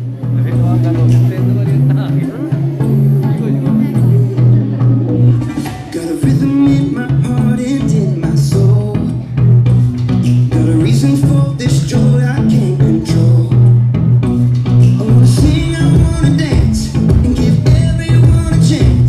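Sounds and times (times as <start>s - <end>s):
dance music over loudspeakers: 0.0s - 19.0s.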